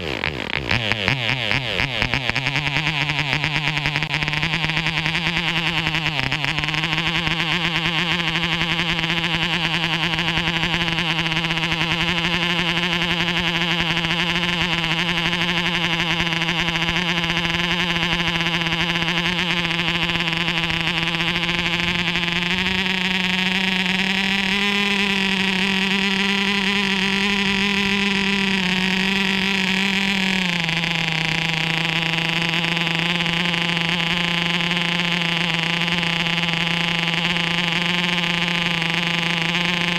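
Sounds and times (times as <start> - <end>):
model airplane engine buzzing: 0.0 - 39.9.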